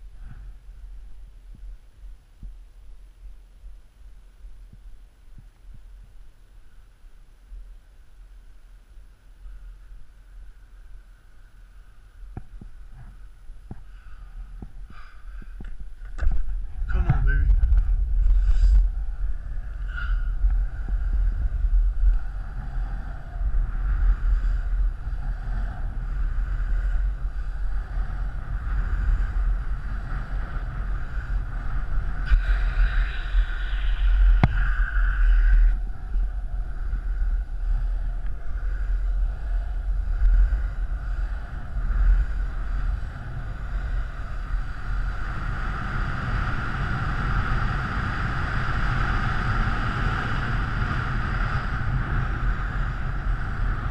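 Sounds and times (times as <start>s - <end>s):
skateboard wheels rolling on asphalt: 0.0s - 53.9s
wind buffeting microphone: 9.5s - 53.9s.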